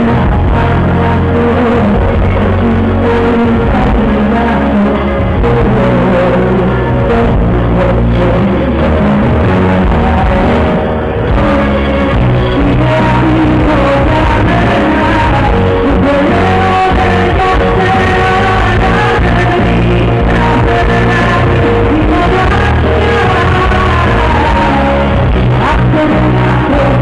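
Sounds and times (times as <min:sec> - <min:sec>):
woman singing with band: 0:00.0 - 0:27.0.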